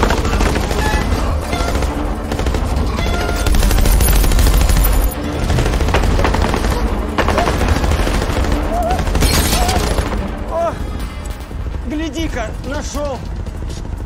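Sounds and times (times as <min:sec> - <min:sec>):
soundtrack music: 0:00.0 - 0:14.0.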